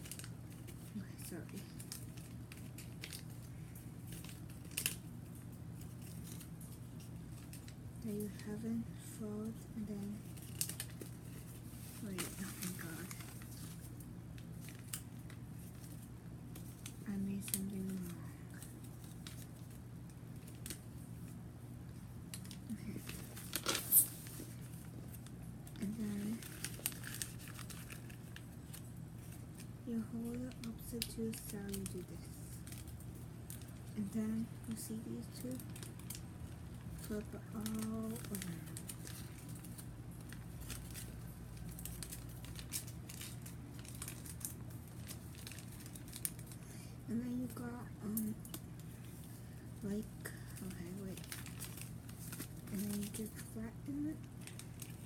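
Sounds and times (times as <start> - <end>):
paper rustling and folding: 0.0 - 8.8, 9.4 - 21.4, 22.3 - 55.0
steady low hum: 0.0 - 55.0.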